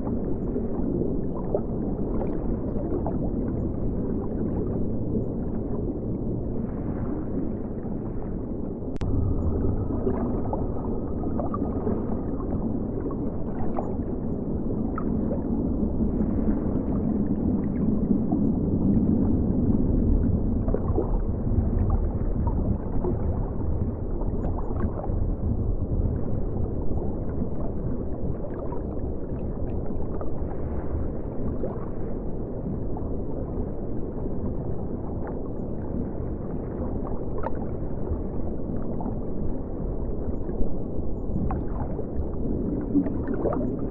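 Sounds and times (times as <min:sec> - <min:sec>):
muffled river water rushing: 0:00.0 - 0:43.9.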